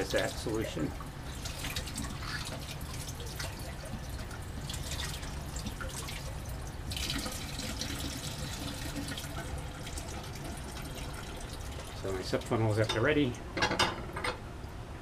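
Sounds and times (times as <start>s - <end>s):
tap water running and splashing: 0.0s - 13.0s.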